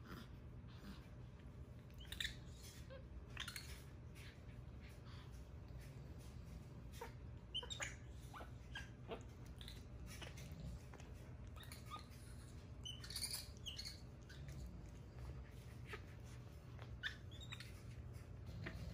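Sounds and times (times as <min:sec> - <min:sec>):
monkeys squeaking: 0:01.9 - 0:05.0, 0:06.8 - 0:18.9.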